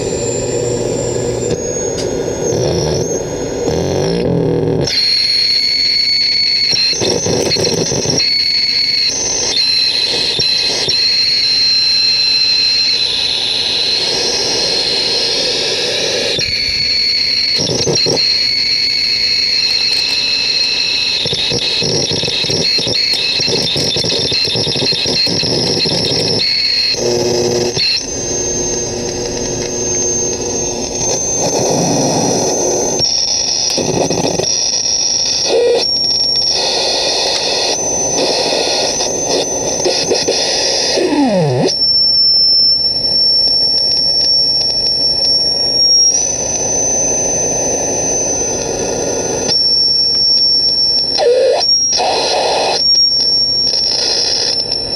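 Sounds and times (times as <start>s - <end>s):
harsh static: 0.0s - 54.9s
high whistling tones: 4.9s - 54.9s.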